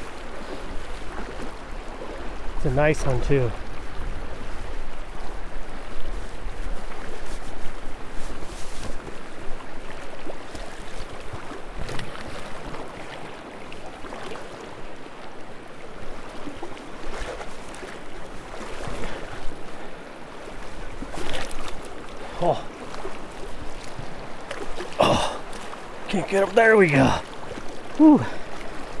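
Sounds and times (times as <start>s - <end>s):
flowing river water: 0.0s - 29.0s.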